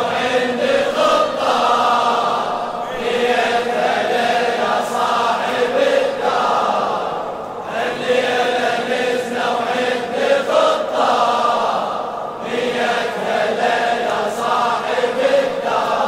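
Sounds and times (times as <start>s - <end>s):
crowd of men chanting: 0.0s - 16.0s.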